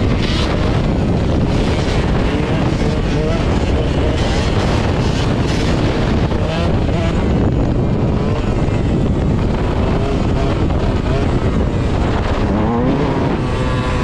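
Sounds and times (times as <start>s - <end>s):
dirt bike engine revving: 0.0s - 14.0s
wind rush on microphone: 0.0s - 14.0s.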